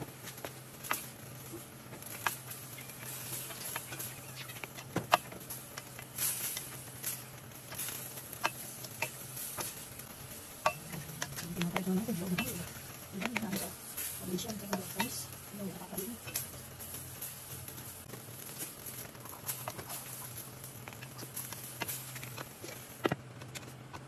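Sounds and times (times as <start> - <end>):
soft sizzle: 0.0 - 24.0
steady low hum: 0.0 - 24.0
spatula scraping a wok: 0.3 - 23.2.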